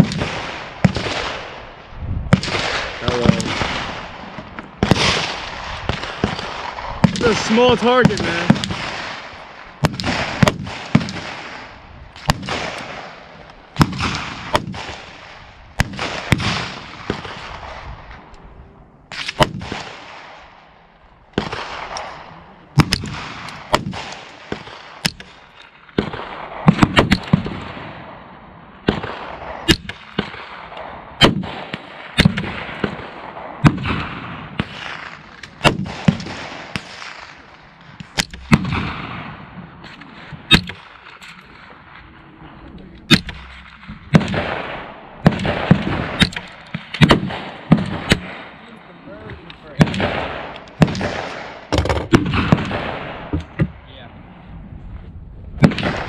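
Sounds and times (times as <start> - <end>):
gunshots with echoing tail: 0.0 - 18.4, 19.1 - 54.5, 55.5 - 56.0.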